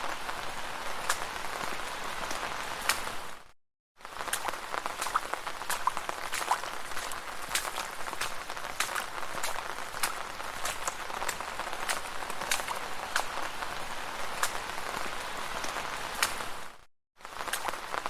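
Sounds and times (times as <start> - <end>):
drips and splats of drops: 0.0 - 18.0
rain falling on street: 0.0 - 18.0.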